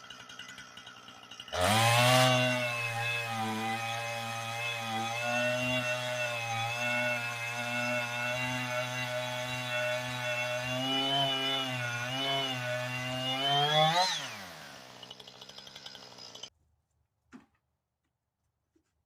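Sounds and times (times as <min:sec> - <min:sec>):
small engine running: 0:00.0 - 0:16.5.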